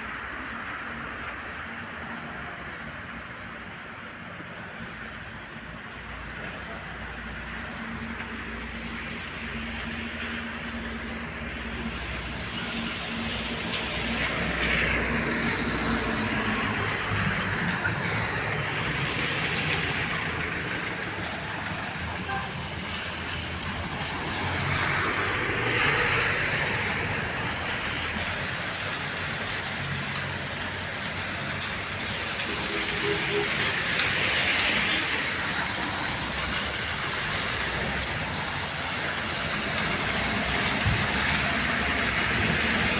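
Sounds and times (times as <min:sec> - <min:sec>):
rain on wet street: 0:00.0 - 0:42.9.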